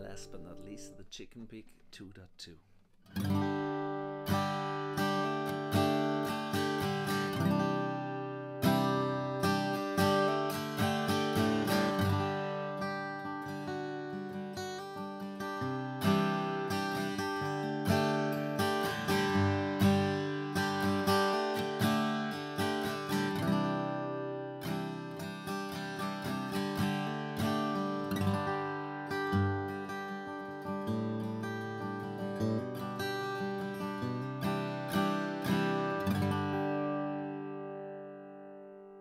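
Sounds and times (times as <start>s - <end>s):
acoustic guitar strummed chords: 0.0s - 39.0s.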